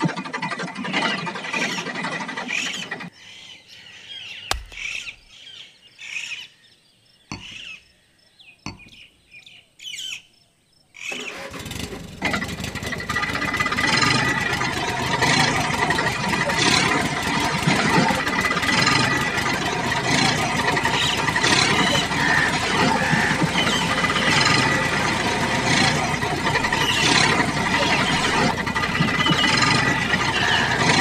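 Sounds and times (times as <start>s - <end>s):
birds chirping: 0.8s - 11.4s, 13.5s - 31.0s.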